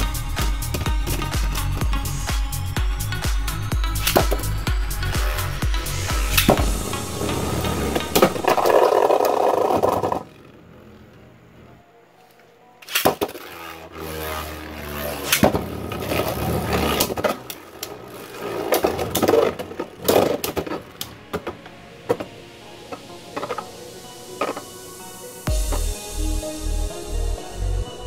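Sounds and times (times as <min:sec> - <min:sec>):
spinning tops whirring and scraping: 0:00.0 - 0:10.9, 0:12.8 - 0:25.9.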